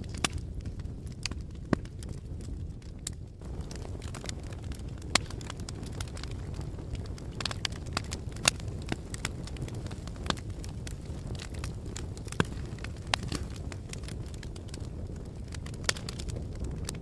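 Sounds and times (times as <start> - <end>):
low rumble of wind: 0.0 - 17.0
wood fire crackling and popping: 0.0 - 17.0.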